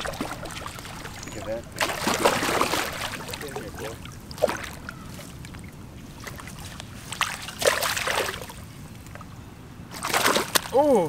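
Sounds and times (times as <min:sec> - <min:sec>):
fish splashing in water: 0:00.0 - 0:08.6, 0:09.9 - 0:10.8.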